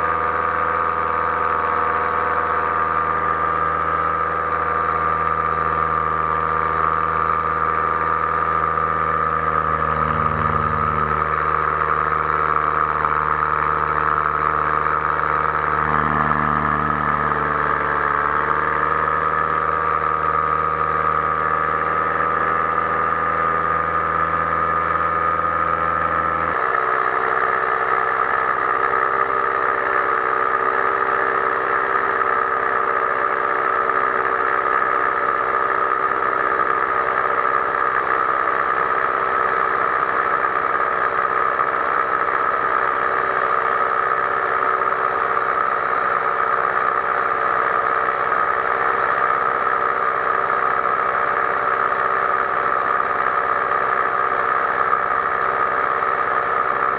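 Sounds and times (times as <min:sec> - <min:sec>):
paraglider engine droning: 0:00.0 - 0:56.9.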